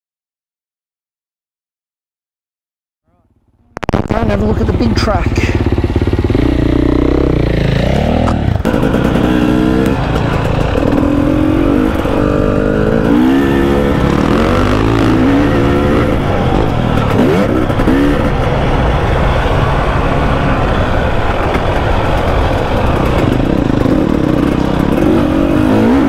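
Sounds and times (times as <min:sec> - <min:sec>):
dirt bike engine revving: 0:03.4 - 0:26.0.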